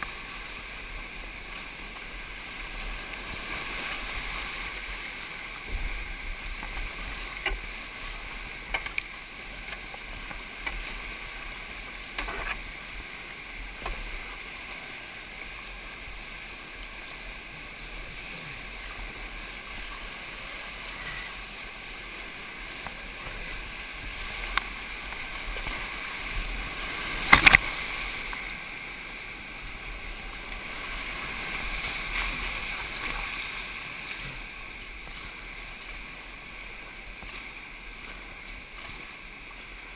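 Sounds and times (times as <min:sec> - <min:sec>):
whitewater rushing and splashing: 0:00.0 - 0:39.9.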